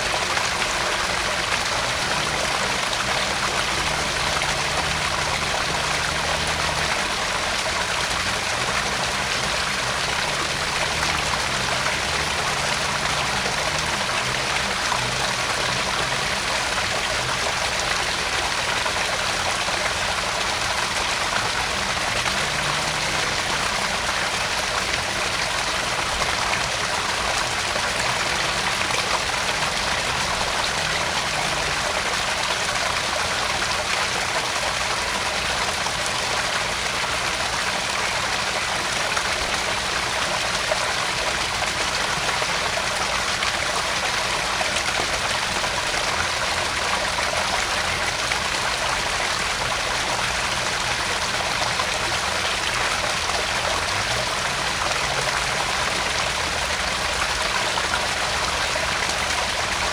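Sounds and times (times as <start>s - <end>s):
waterfall splashing into pond: 0.0s - 59.9s.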